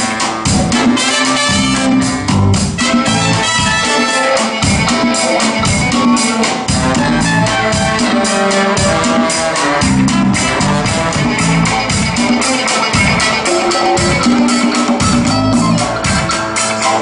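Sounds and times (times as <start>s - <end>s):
orchestra with drum kit playing: 0.0s - 17.0s.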